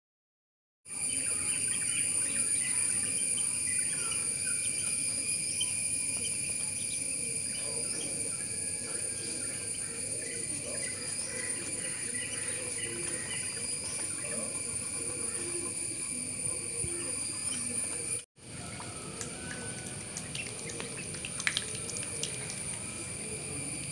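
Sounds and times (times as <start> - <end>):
insect chorus ringing: 0.9 - 23.9.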